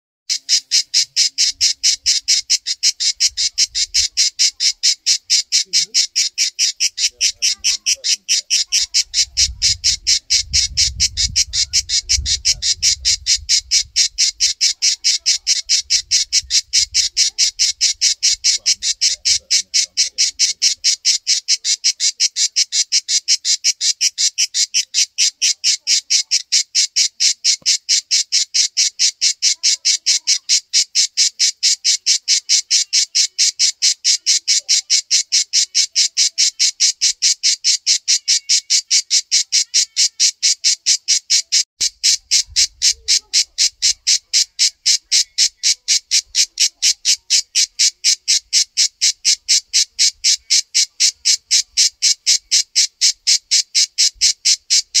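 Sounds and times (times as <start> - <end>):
cicada buzzing: 0.3 - 55.0.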